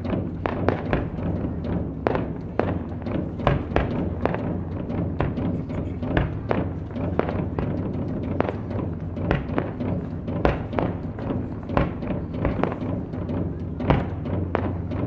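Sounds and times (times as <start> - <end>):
sharp thuds and knocks: 0.0 - 15.0
steady low rumble: 0.0 - 15.0.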